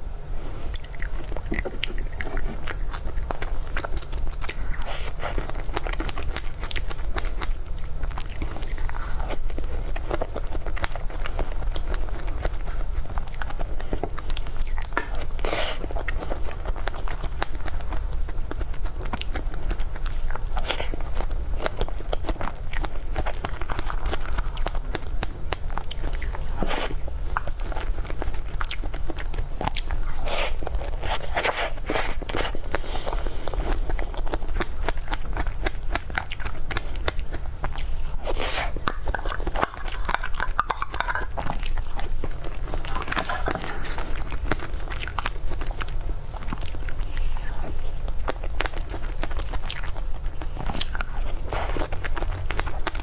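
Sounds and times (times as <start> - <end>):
steady low hum: 0.0 - 53.0
crunchy chewing: 0.4 - 53.0.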